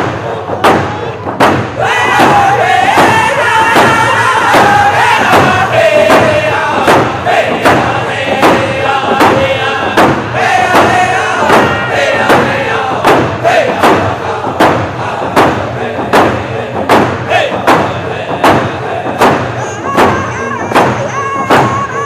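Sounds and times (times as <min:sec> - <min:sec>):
group chanting: 0:00.0 - 0:22.0
steady drum beat: 0:00.0 - 0:22.0.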